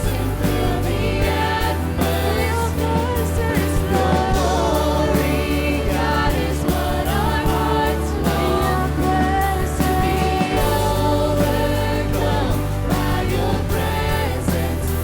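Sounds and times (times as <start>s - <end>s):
band with steady bass: 0.0s - 15.0s
people singing: 0.0s - 15.0s.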